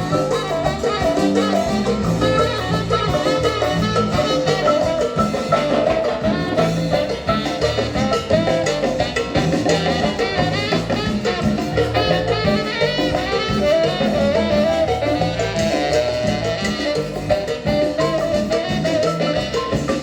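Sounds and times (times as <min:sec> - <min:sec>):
bass and drum beat: 0:00.0 - 0:20.0
horns playing: 0:00.0 - 0:20.0
marimba runs: 0:00.0 - 0:20.0.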